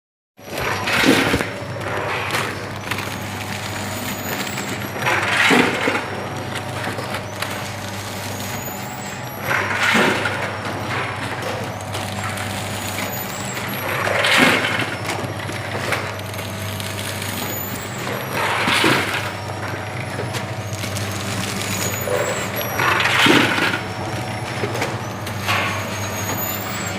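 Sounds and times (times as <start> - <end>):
packaging machine humming: 0.4 - 26.9.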